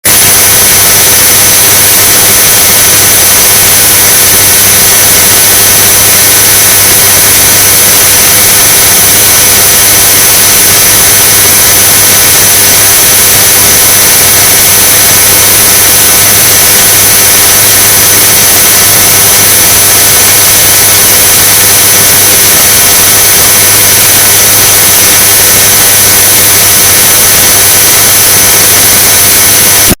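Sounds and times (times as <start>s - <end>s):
high whistling tones: 0.0s - 30.0s.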